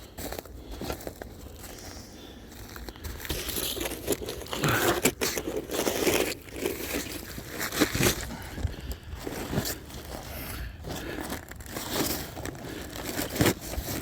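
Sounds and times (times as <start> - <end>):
crunching on icy snow: 0.1 - 14.0.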